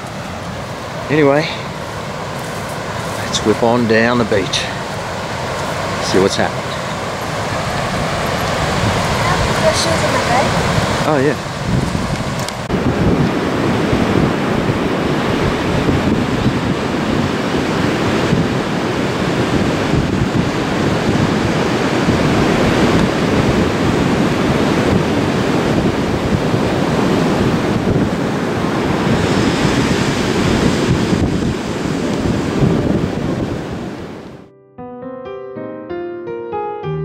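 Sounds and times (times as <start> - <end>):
ocean surf washing on beach: 0.0 - 34.5
wind buffeting microphone: 0.0 - 34.5.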